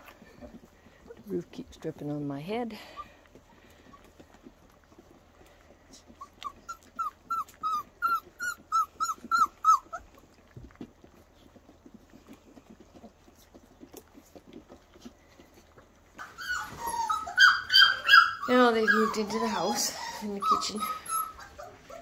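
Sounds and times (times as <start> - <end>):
puppy whimpering: 0.0 - 1.4, 2.8 - 22.0
puppies lapping from bowls: 0.0 - 22.0.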